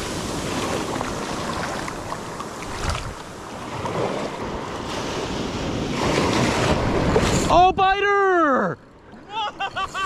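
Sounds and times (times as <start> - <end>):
ocean surf on beach: 0.0 - 10.0.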